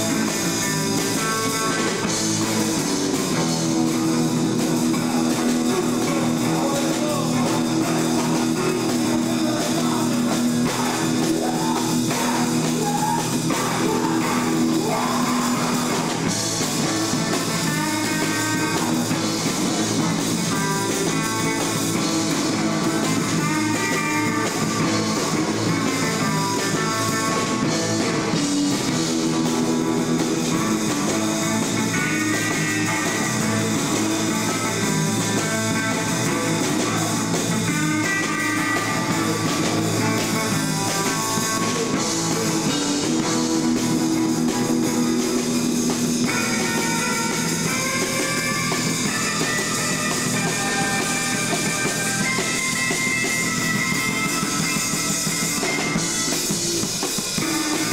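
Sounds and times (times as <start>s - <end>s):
drum kit: 0.0s - 57.9s
electric guitar: 0.0s - 57.9s.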